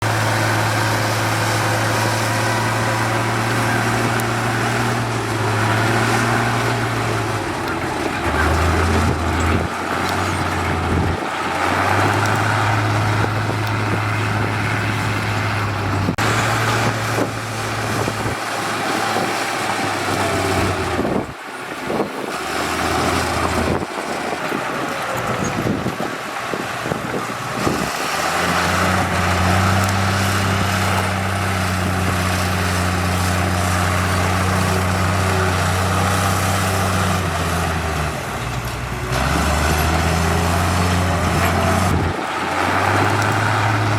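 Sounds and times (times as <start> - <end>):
diesel construction machinery engines: 0.0 - 43.9
rough uneven machine noise: 0.0 - 43.9.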